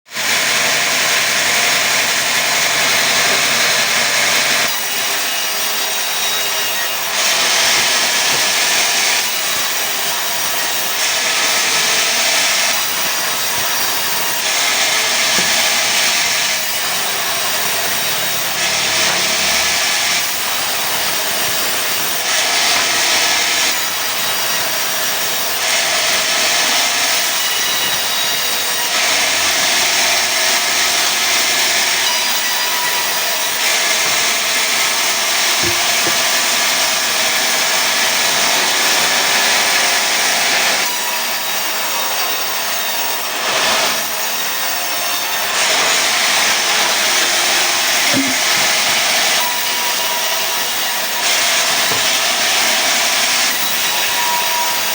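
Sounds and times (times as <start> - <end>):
sawmill saw cutting wood: 0.1 - 54.9.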